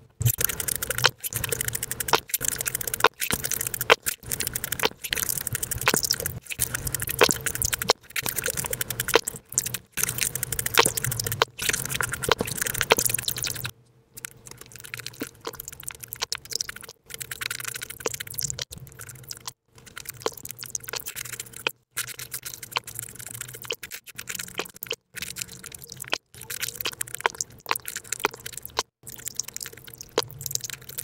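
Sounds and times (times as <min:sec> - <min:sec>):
rapid wet chewing sounds: 0:00.2 - 0:31.0.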